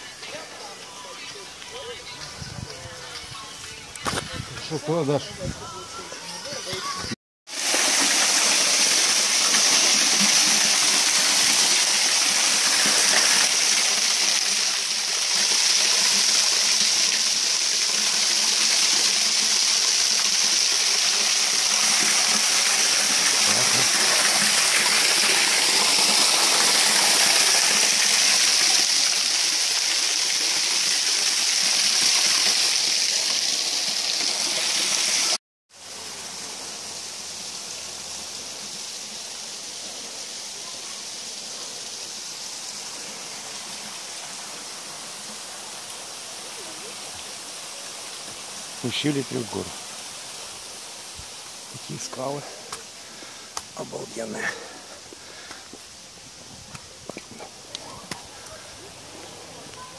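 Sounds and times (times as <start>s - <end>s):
waterfall rushing and splashing: 7.0s - 59.9s.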